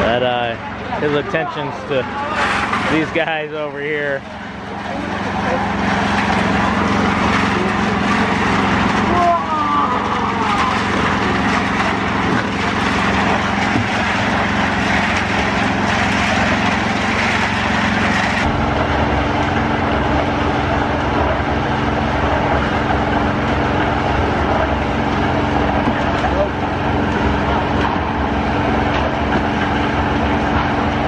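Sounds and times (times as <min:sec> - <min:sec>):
concrete churning in drum: 0:00.0 - 0:31.0
mixer engine hum: 0:00.0 - 0:31.0.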